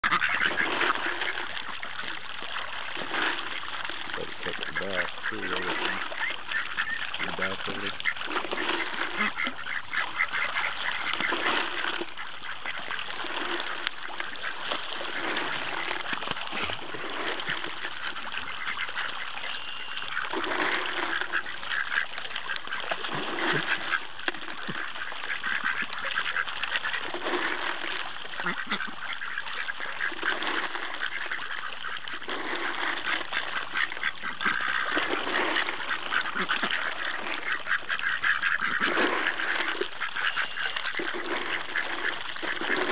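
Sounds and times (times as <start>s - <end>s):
ducks quacking: 0.0s - 42.9s
water splashing: 0.0s - 42.9s.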